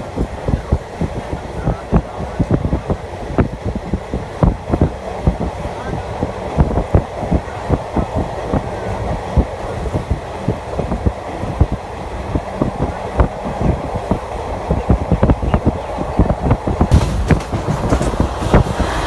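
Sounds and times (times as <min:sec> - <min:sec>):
train rumble: 0:00.0 - 0:19.0
train wheels clattering over rail joints: 0:00.0 - 0:19.0.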